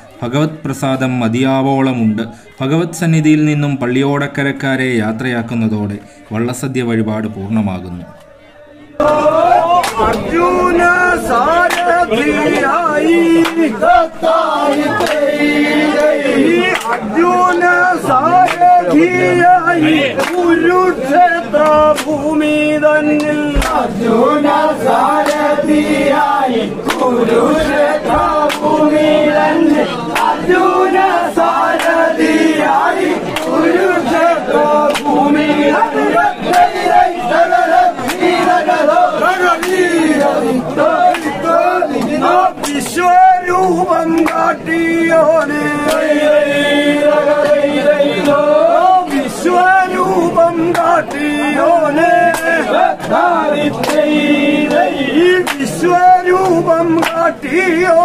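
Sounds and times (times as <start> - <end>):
men chanting in unison: 8.8 - 58.0.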